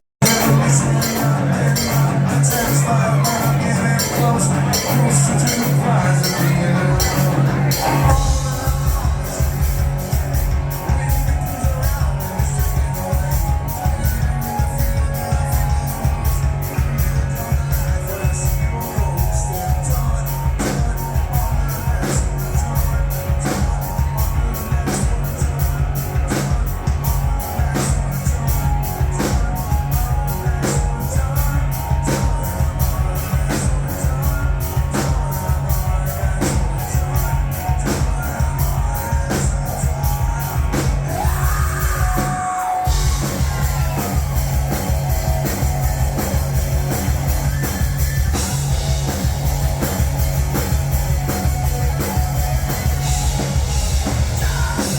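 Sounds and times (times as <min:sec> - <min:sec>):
drum kit beat: 0:00.2 - 0:54.9
heavy bass: 0:00.2 - 0:54.9
rock music: 0:00.2 - 0:54.9.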